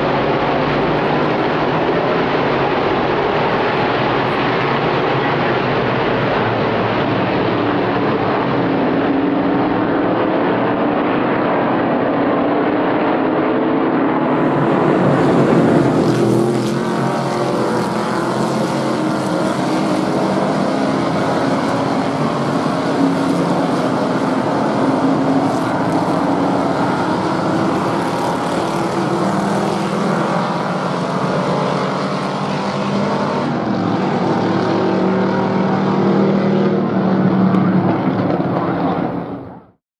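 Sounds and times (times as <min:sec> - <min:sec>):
race car engines roaring: 0:00.0 - 0:39.8.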